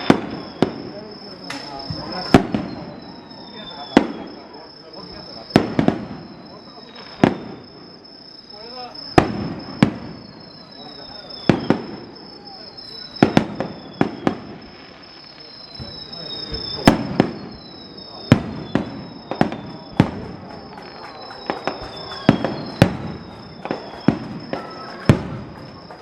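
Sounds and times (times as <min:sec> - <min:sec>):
fireworks bangs with echo: 0:00.0 - 0:26.0.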